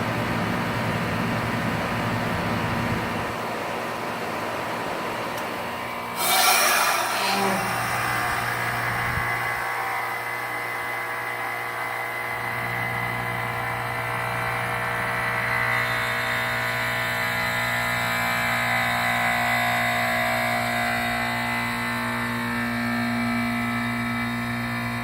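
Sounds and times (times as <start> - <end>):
compressor unit grinding drone: 0.0 - 25.0.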